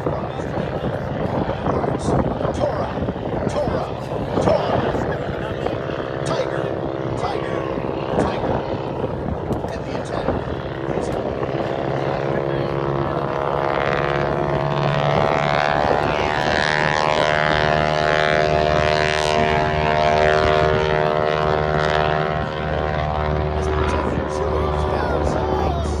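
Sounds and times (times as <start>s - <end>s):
aircraft engine droning: 0.0s - 26.0s.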